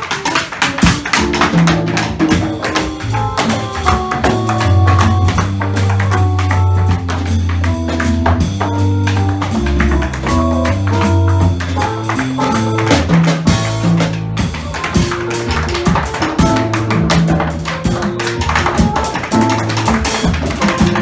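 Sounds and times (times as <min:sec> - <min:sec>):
tap shoes on hard floor: 0:00.0 - 0:21.0
electric keyboard bass and chords: 0:00.7 - 0:21.0.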